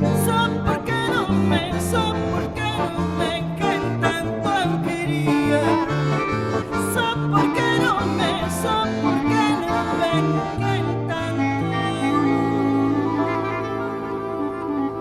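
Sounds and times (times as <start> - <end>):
folk band playing instrumental: 0.0 - 15.0.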